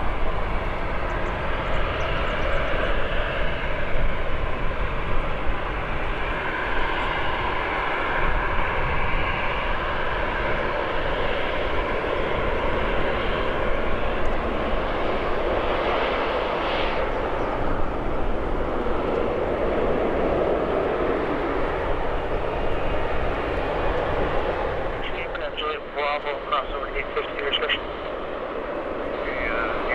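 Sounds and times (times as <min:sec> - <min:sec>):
airliner engine rushing: 0:00.0 - 0:29.9
faint engine whine: 0:00.0 - 0:29.9.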